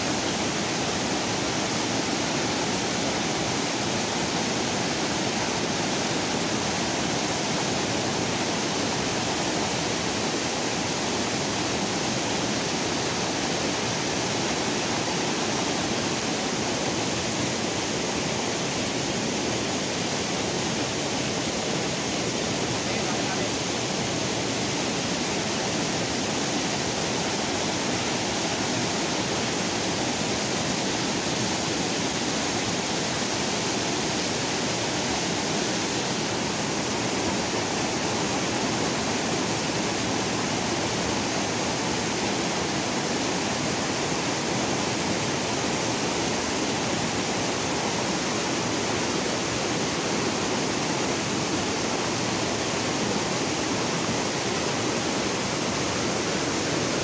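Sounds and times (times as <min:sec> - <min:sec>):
river rapids rushing over boulders: 0:00.0 - 0:57.0.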